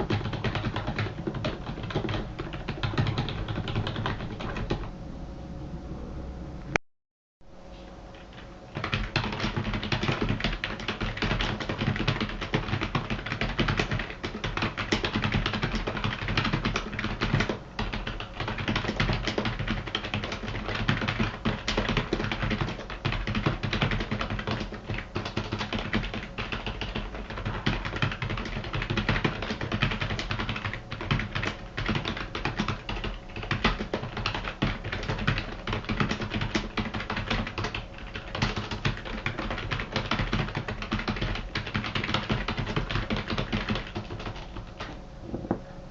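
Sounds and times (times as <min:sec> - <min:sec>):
mechanical keyboard keys clacking: 0:00.0 - 0:04.8, 0:08.3 - 0:44.9.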